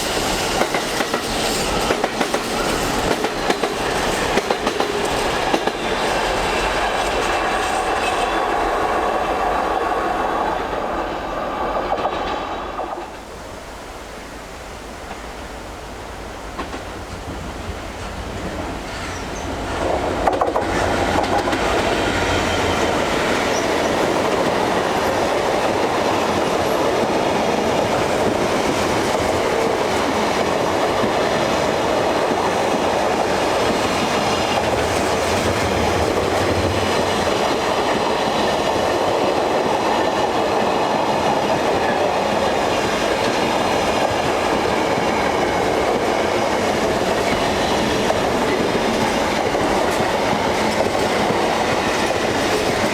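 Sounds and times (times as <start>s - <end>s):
freight train wheels rumbling: 0.0s - 13.8s, 14.9s - 52.9s.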